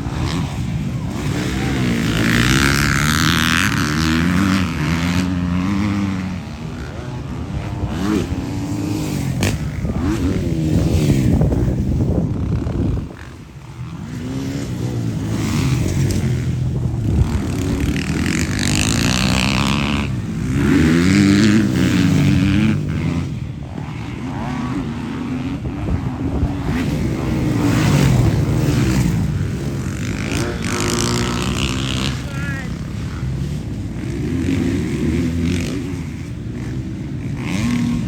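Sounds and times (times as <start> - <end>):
motocross motorcycle engines revving: 0.0 - 38.0.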